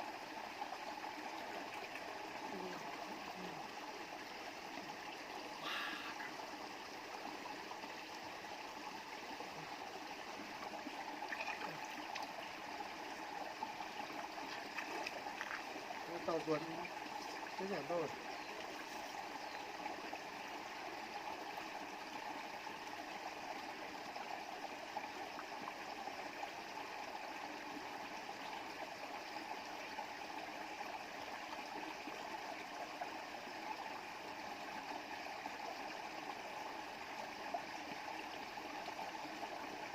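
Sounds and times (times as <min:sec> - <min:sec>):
stream water running over stones: 0:00.0 - 0:39.9.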